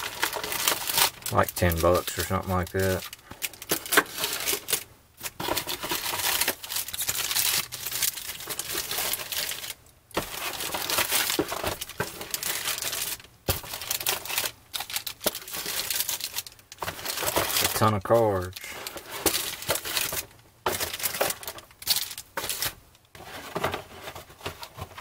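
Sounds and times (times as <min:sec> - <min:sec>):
card wrappers crinkling: 0:00.0 - 0:25.0.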